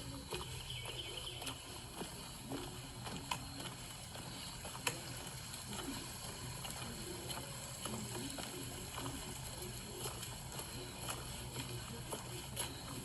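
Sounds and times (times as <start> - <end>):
footsteps on forest trail: 0.0 - 13.0
low steady hum: 0.0 - 13.0.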